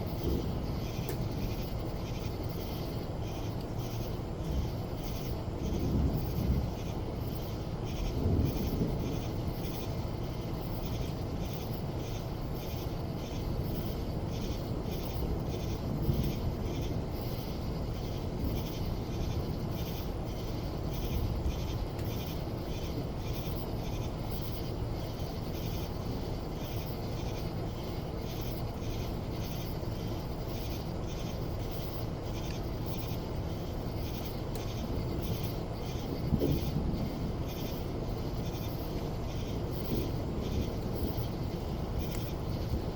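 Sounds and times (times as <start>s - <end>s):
faint high-pitched pulsing: 0.0s - 42.9s
steady rain: 0.0s - 42.9s.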